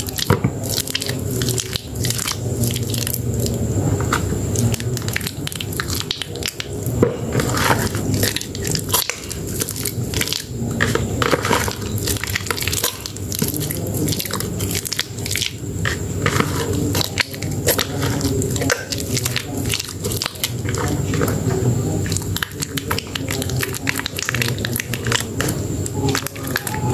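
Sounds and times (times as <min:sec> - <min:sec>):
steady low hum: 0:00.0 - 0:26.9
wet soap foam squishing: 0:00.0 - 0:26.9.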